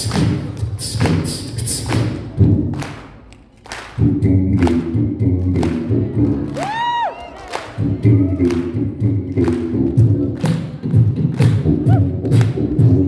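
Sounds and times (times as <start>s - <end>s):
person beatboxing into microphone: 0.0s - 13.0s.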